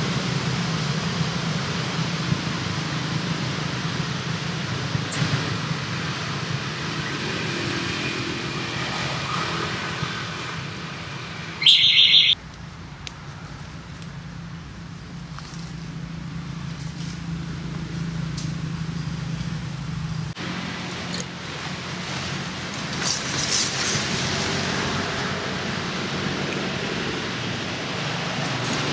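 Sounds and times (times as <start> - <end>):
distant traffic hum: 0.0 - 28.9.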